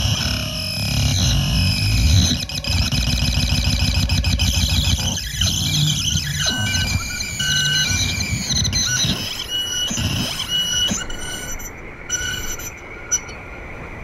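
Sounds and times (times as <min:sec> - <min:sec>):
high squealing tones: 0:00.0 - 0:13.5.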